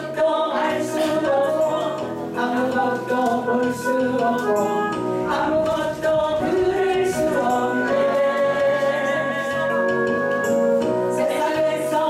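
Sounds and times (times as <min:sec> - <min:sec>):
instrumental accompaniment: 0:00.0 - 0:12.0
woman singing into microphone: 0:00.0 - 0:12.0.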